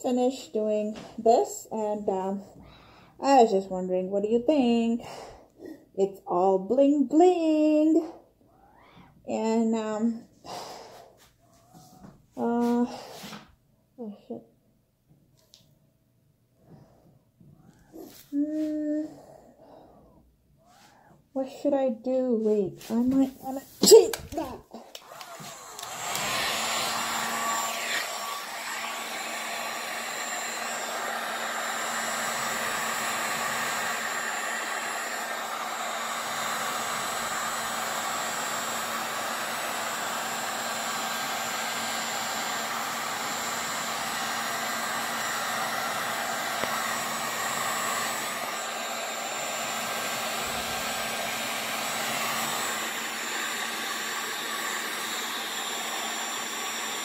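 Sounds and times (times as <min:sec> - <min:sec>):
hot-air blower running: 0:00.0 - 0:13.5, 0:22.4 - 0:57.0.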